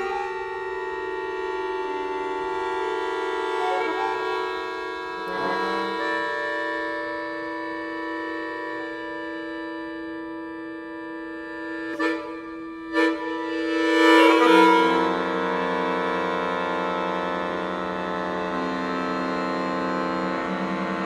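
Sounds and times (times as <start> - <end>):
accordion playing held chords: 0.0 - 21.0.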